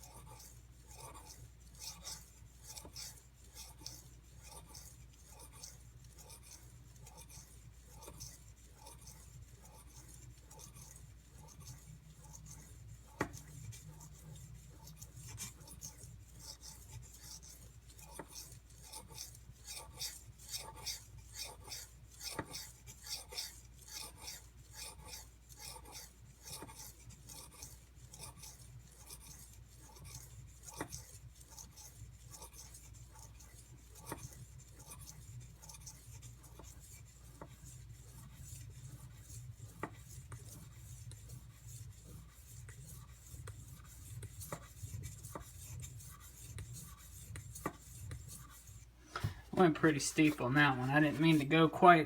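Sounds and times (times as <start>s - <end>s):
knife scraping on whetstone: 0.0s - 51.6s.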